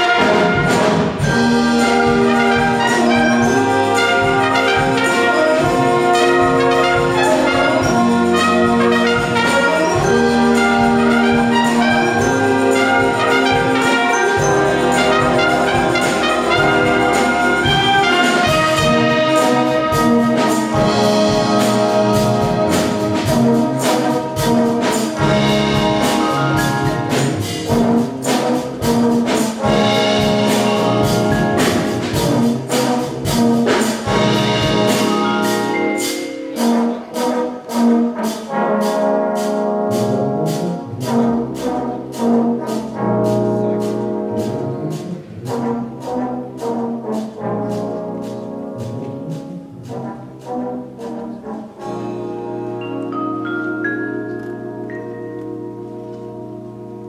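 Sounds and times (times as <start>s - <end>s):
brass band playing: 0.0s - 57.0s
rapid percussion strikes: 0.0s - 57.0s.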